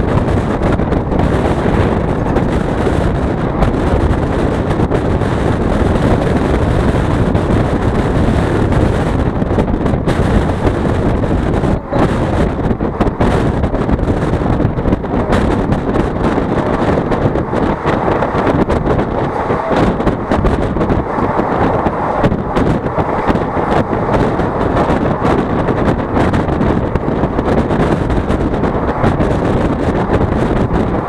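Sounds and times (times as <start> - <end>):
train wheels on rails: 0.0 - 31.0
wind buffeting microphone: 0.0 - 31.0.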